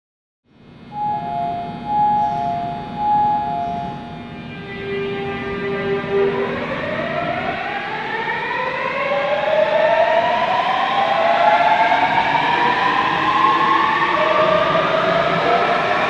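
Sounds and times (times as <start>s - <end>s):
electric train motors whining: 0.8s - 16.0s.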